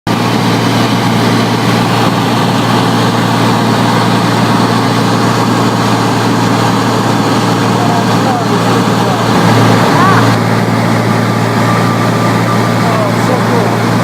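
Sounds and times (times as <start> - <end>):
propeller plane engine running: 0.1 - 14.0.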